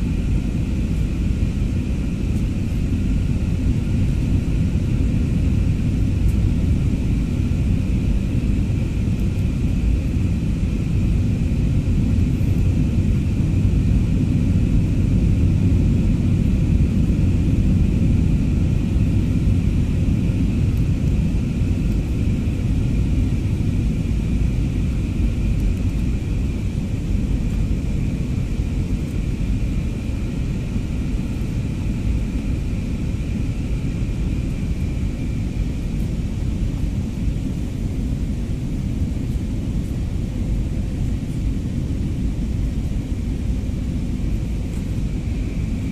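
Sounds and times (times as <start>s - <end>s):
low rumble of jet engines: 0.0s - 45.9s.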